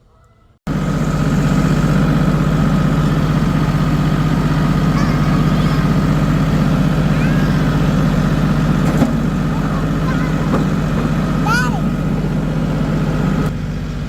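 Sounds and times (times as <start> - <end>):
tractor engine running: 0.7 - 14.0.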